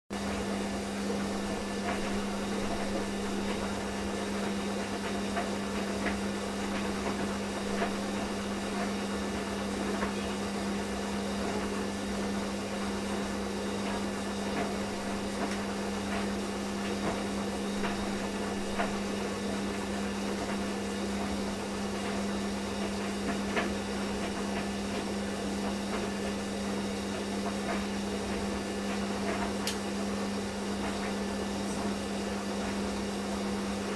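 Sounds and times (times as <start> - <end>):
electrical hum: 0.1 - 33.9.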